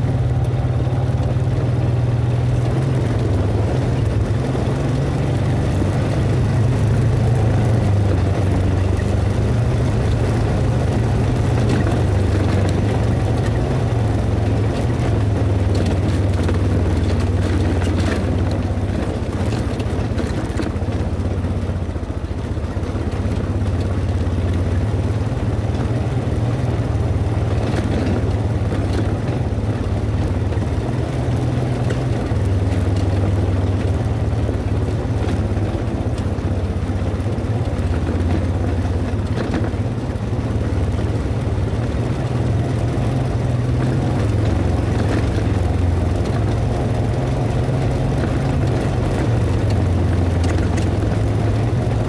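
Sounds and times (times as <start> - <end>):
atv engine running: 0.0 - 52.0.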